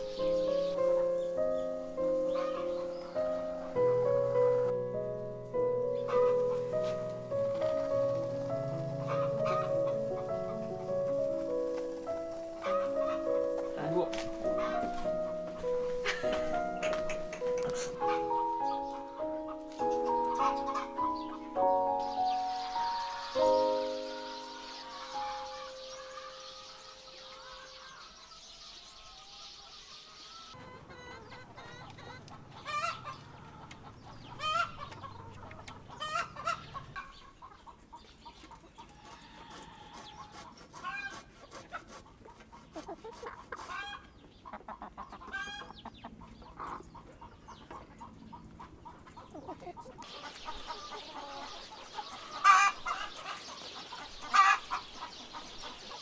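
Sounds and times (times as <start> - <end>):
hens clucking: 0.0 - 4.8, 5.5 - 28.2, 29.1 - 56.0.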